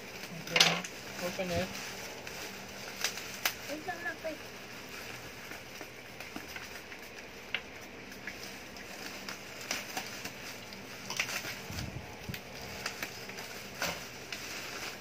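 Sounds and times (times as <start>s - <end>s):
bubble wrap rustling and crinkling: 0.0s - 15.0s.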